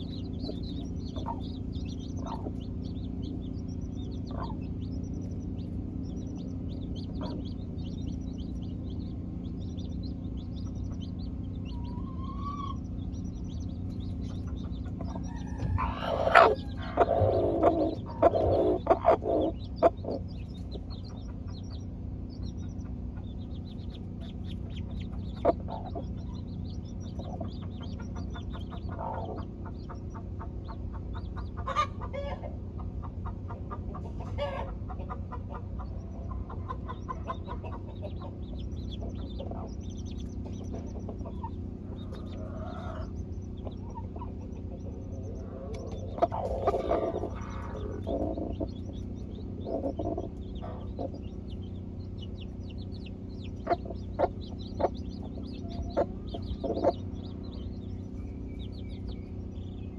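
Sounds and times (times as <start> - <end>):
hens clucking: 0.0 - 59.6
chicks peeping: 0.0 - 59.9
steady low hum: 0.0 - 59.9.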